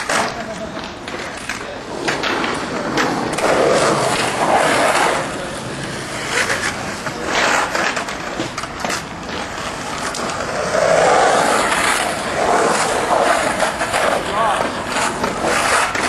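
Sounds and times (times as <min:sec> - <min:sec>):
sharp skateboard clicks: 0:00.0 - 0:16.0
skateboard wheels rolling on concrete: 0:00.0 - 0:16.0.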